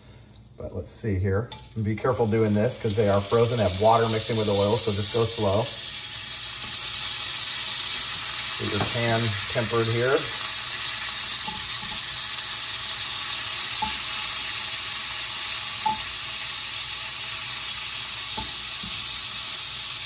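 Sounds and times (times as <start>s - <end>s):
food sizzling in oil: 1.5s - 20.0s.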